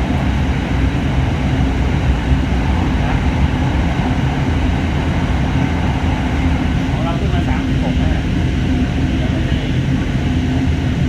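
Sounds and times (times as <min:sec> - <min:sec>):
constant hum: 0:00.0 - 0:11.0
electric train rumbling: 0:00.0 - 0:11.0.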